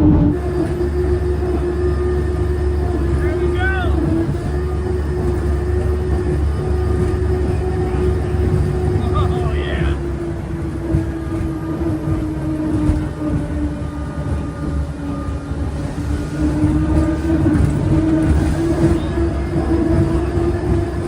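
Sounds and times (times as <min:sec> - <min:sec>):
jet boat engines rumbling: 0:00.0 - 0:21.0.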